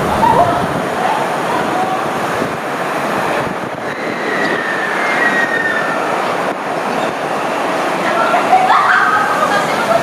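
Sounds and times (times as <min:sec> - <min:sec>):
train wheel and rail noise: 0:00.0 - 0:10.0.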